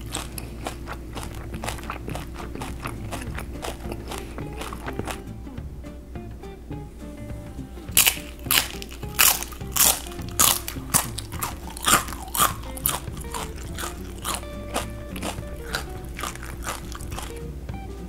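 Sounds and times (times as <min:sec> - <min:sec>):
crunchy food bitten and chewed: 0:00.0 - 0:05.2, 0:07.9 - 0:17.4
background music: 0:00.0 - 0:18.0.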